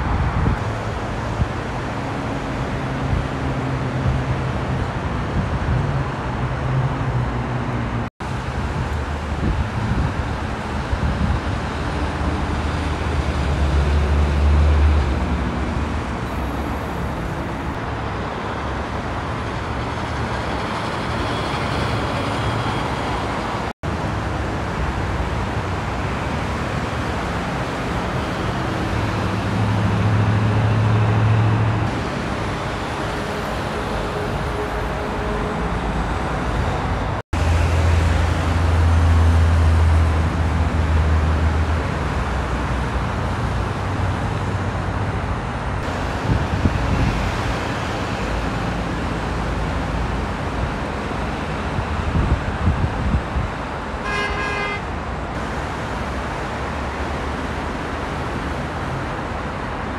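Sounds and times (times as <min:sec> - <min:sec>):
freeway traffic tyre noise: 0:00.0 - 0:59.9
heavy truck engine drone: 0:00.0 - 0:59.9.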